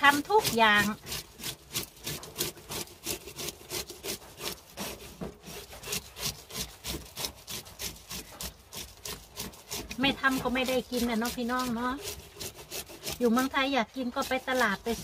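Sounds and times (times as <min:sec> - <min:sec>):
metal fish scaler scraping scales: 0:00.0 - 0:15.0.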